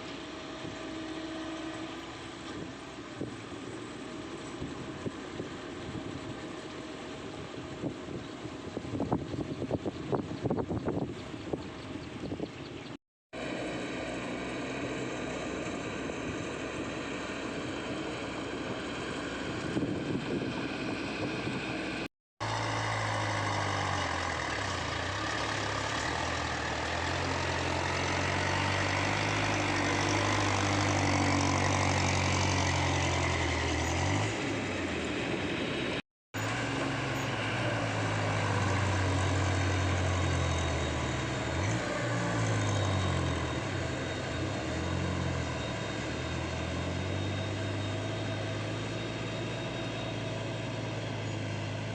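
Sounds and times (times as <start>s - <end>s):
diesel engine running: 0.0s - 12.7s, 13.4s - 51.9s.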